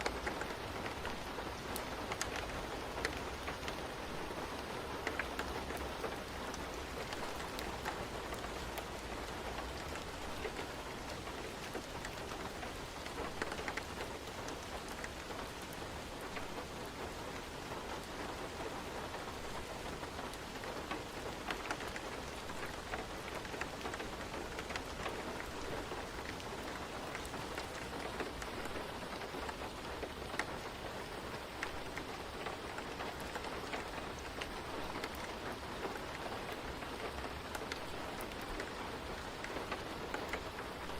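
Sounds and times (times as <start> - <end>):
raindrops ticking: 0.0 - 40.9
steady rain hissing: 0.0 - 40.9.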